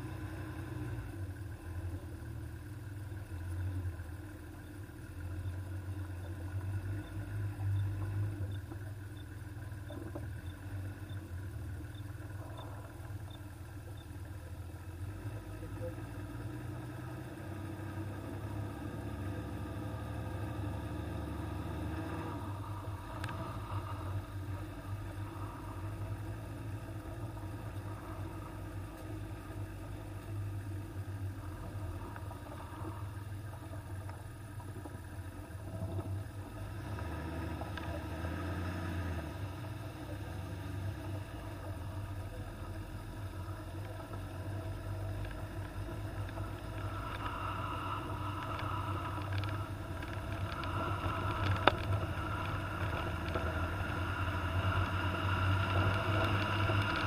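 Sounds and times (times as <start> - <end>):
engine and road noise rumble: 0.0 - 57.0.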